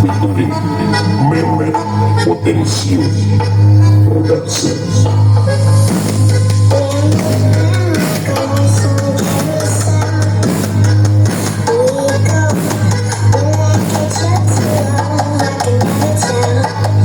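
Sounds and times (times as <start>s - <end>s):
deep bass pulses: 0.0s - 17.0s
loud music through sound system: 0.0s - 17.0s.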